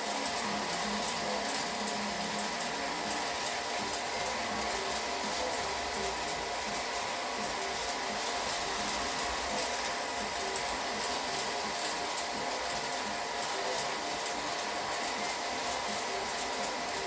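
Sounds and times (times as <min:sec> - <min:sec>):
mechanical running noise: 0:00.0 - 0:17.0.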